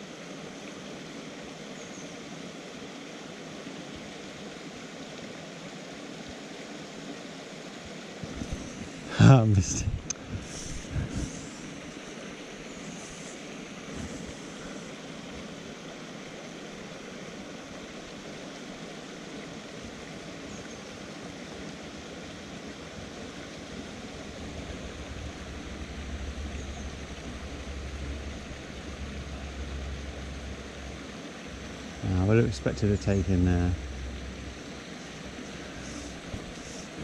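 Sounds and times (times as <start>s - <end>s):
stream rushing over stones: 0.0s - 37.0s.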